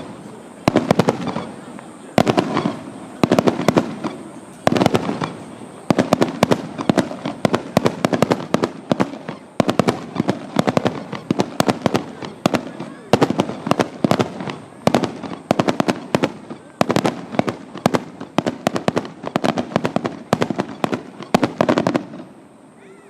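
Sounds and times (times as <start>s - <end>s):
fireworks banging and crackling: 0.0s - 22.5s.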